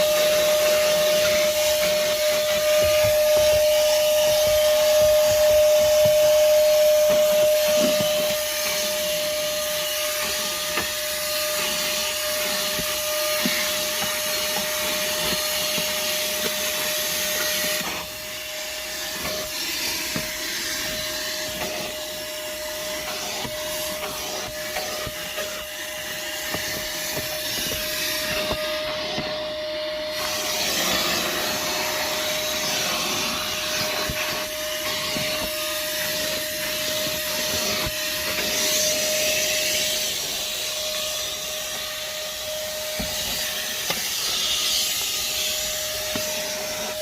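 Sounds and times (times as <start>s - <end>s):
shop vacuum running: 0.0s - 47.0s.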